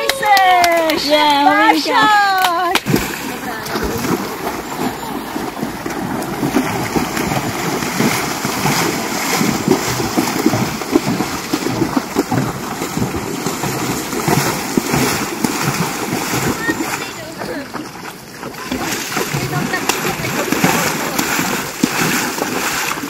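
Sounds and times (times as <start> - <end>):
horses splashing through water: 0.0 - 23.0.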